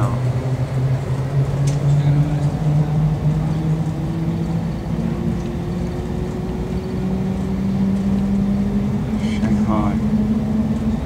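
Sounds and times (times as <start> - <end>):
rising humming drive tone: 0.0 - 11.0
train cabin rumble: 0.0 - 11.0.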